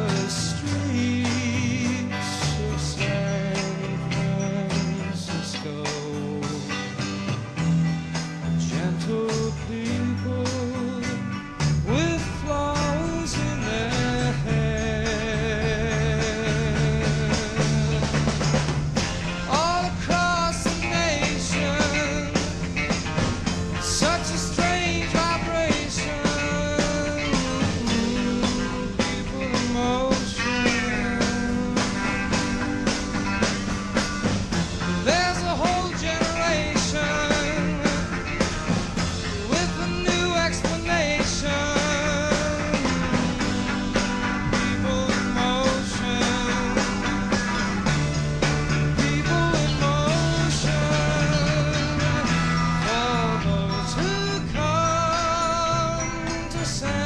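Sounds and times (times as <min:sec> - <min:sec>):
low bass notes: 0:00.0 - 0:57.0.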